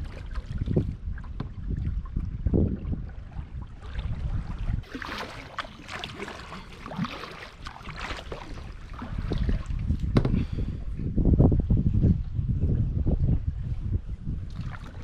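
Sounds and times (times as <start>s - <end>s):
water splashing around boat: 0.0s - 12.2s, 13.0s - 15.0s
wind buffeting microphone: 0.0s - 15.0s.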